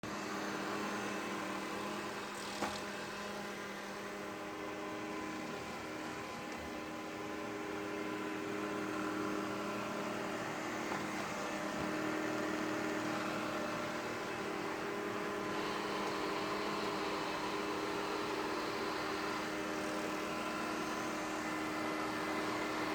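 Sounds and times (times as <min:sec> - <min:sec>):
robot vacuum motor whirring: 0:00.2 - 0:22.9.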